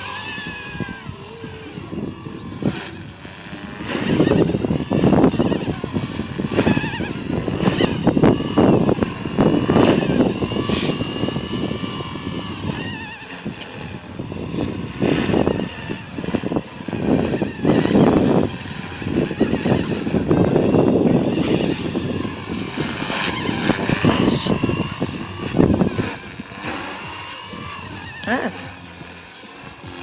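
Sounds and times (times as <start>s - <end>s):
rc helicopter rotor whine: 0.0s - 30.0s
wind buffeting microphone: 0.0s - 30.0s.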